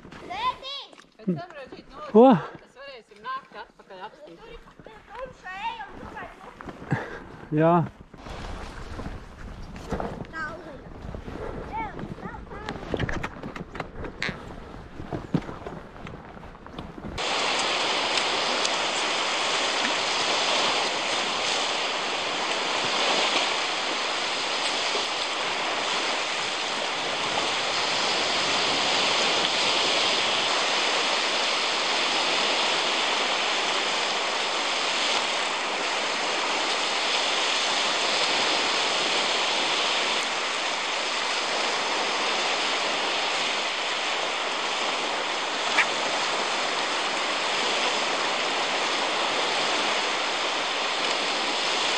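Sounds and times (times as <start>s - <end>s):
waves washing up a beach: 4.0s - 16.0s, 16.8s - 51.9s.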